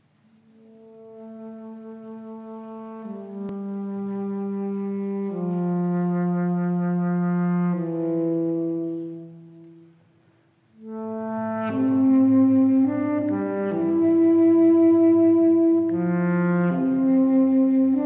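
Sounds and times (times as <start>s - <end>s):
tenor saxophone low notes: 0.2s - 18.0s.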